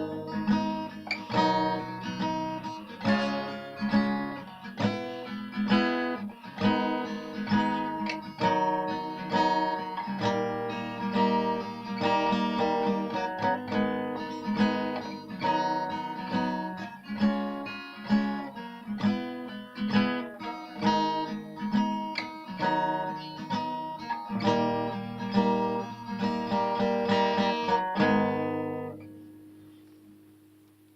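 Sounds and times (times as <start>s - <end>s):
acoustic guitar strumming chords: 0.0s - 30.9s.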